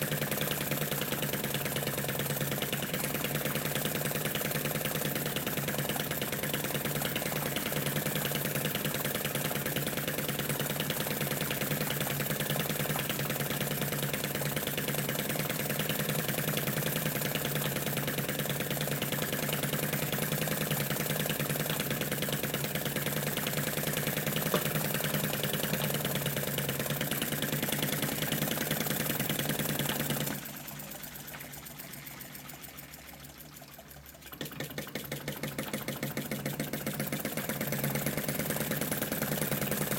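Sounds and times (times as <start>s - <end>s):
model engine clattering: 0.0s - 39.9s.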